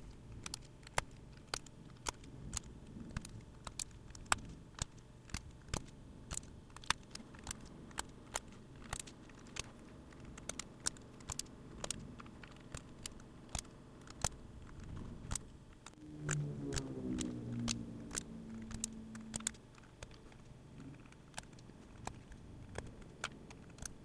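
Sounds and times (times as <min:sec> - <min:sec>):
mechanical keyboard clicks: 0:00.0 - 0:24.0.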